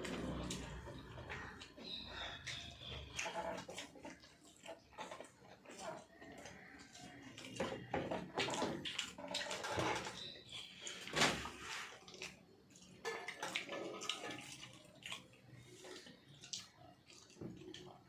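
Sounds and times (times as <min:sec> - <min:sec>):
wet chewing and slurping: 0:00.0 - 0:18.0.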